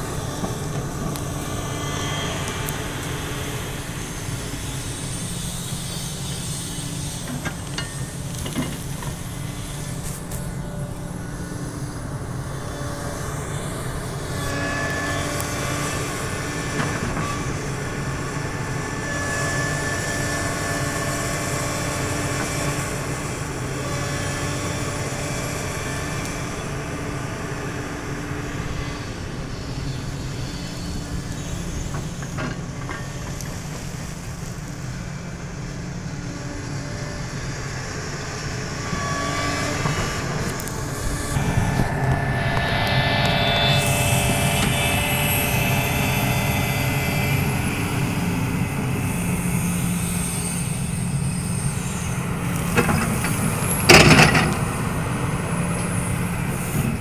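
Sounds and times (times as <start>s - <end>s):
excavator diesel engine: 0.0s - 57.0s
hydraulic whine: 0.0s - 57.0s.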